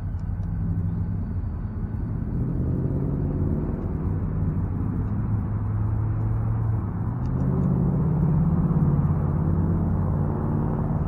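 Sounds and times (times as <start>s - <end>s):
motor vehicle engine droning: 0.0s - 11.0s.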